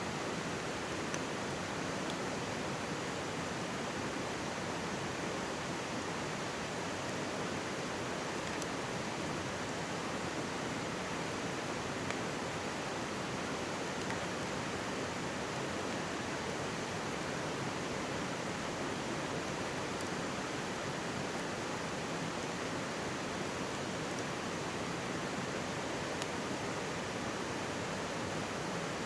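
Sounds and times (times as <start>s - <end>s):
stream rushing and babbling: 0.0s - 29.0s
faint campfire crackles: 0.1s - 29.0s.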